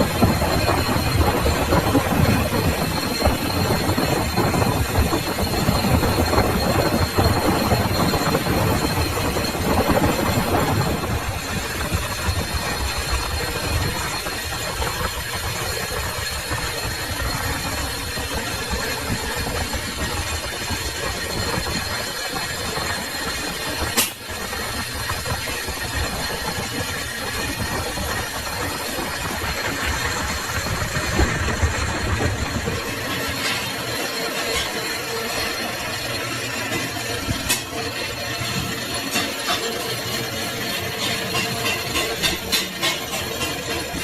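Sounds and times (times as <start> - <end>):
high whine: 0.0 - 44.0
metal lathe running: 0.0 - 44.0.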